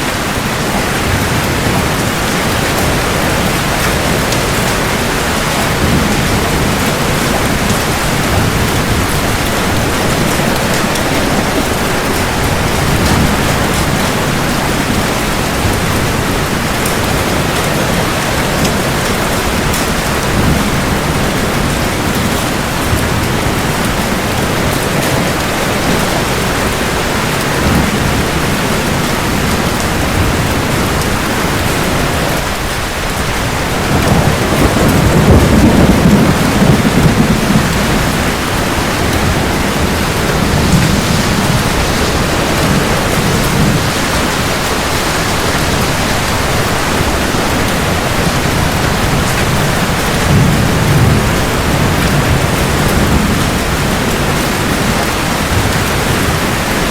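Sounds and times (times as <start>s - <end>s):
heavy rain: 0.0s - 56.9s
thunder rolling: 0.0s - 56.9s.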